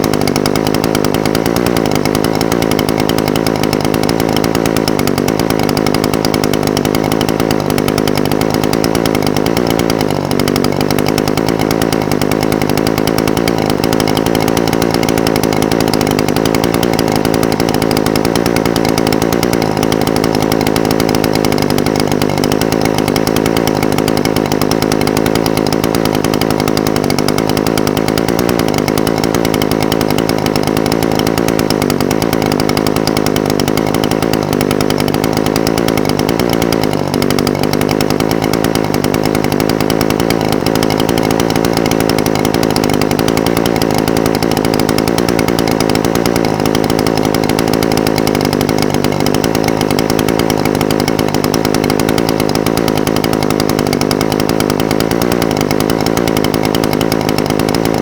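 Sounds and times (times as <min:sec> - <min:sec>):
brush cutter engine idling: 0:00.0 - 0:58.0.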